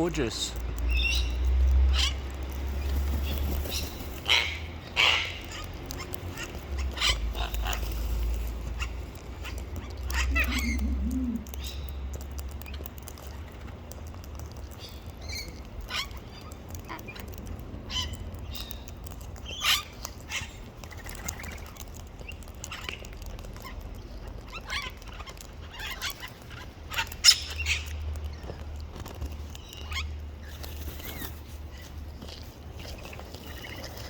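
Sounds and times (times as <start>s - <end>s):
wild birds chirping and calling: 0.0s - 34.0s.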